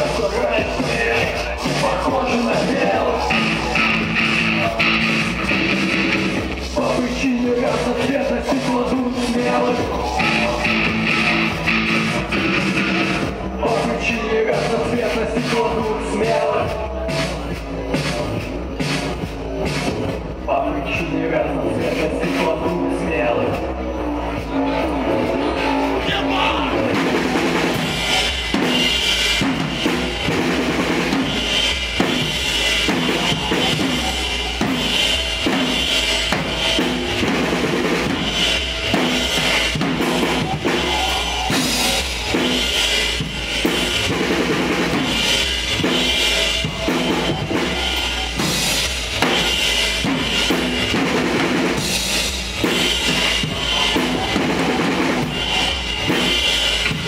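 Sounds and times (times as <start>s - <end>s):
drum kit beat: 0.0s - 57.0s
live band playing: 0.0s - 57.0s.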